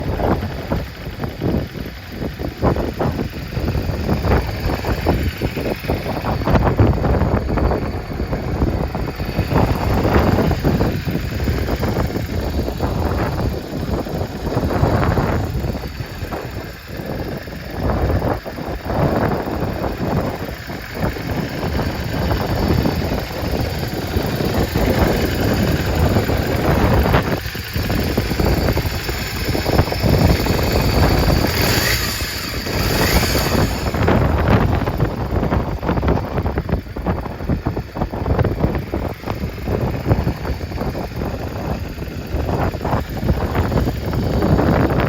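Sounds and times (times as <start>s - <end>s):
motorcycle engine idling: 0.0s - 45.0s
wind buffeting microphone: 0.0s - 45.0s.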